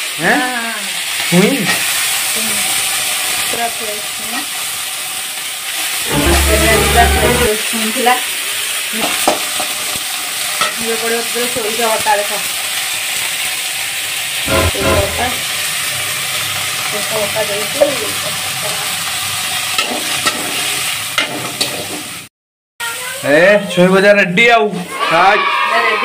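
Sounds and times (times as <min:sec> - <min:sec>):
meat sizzling in hot oil: 0:00.0 - 0:23.8.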